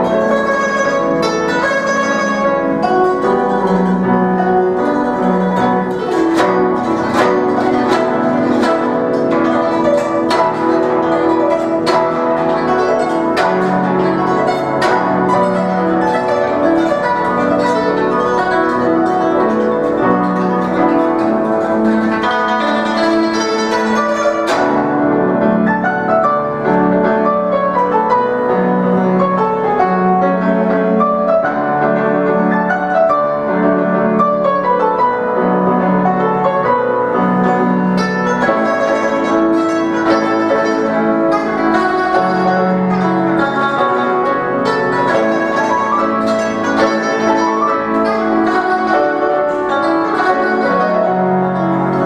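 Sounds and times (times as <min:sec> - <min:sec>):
guzheng plucking quick runs: 0:00.0 - 0:52.0
piano playing: 0:00.0 - 0:52.0.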